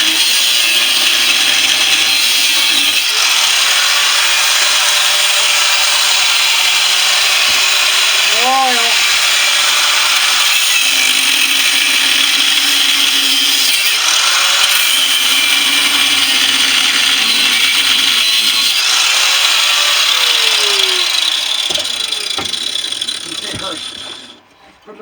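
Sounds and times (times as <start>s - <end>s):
electric power tool cutting metal: 0.0s - 24.4s.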